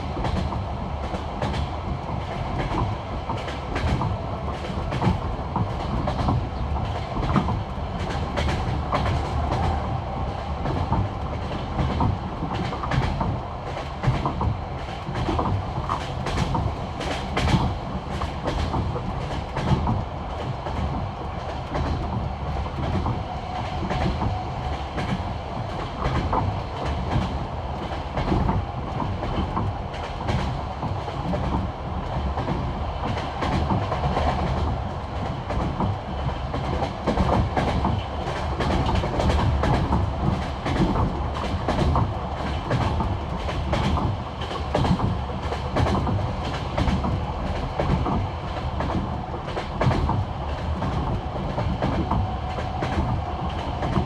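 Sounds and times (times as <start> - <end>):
train rumble: 0.0 - 54.0
train wheels clickety-clack: 0.0 - 54.0.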